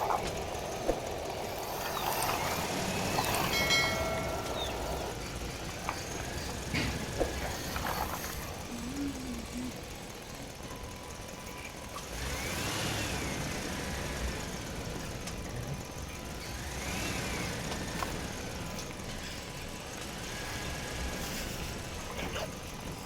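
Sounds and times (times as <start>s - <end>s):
toy excavator motors whining: 0.0s - 23.0s.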